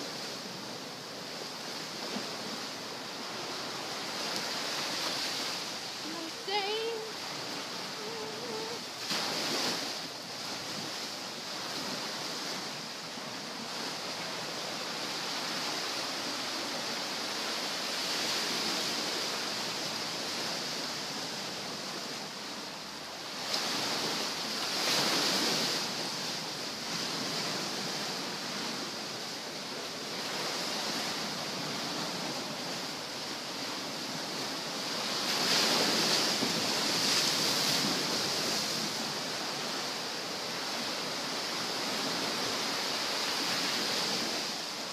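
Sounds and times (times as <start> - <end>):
surf breaking on shore: 0.0 - 44.9.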